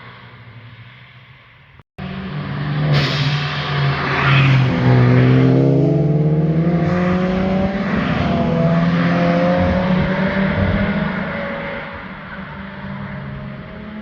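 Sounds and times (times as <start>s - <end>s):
car engine accelerating: 2.0s - 14.0s.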